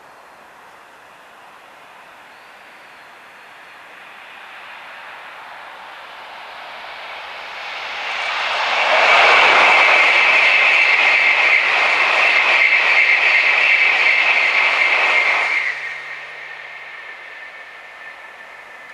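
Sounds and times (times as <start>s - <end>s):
high-speed train passing: 0.0s - 18.9s.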